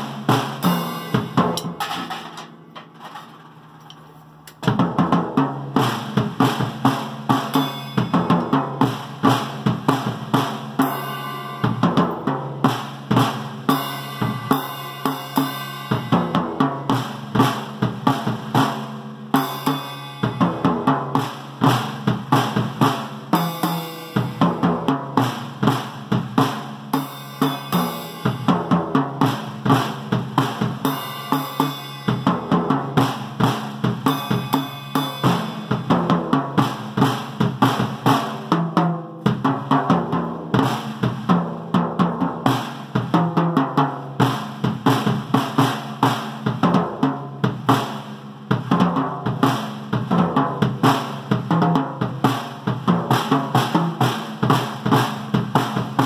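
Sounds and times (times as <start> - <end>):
drum kit played with sticks: 0.0 - 56.0.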